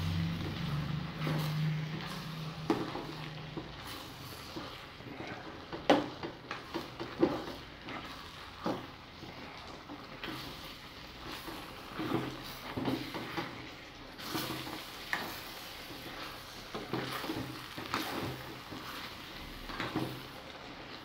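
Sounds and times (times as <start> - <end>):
stew simmering: 0.0 - 21.0.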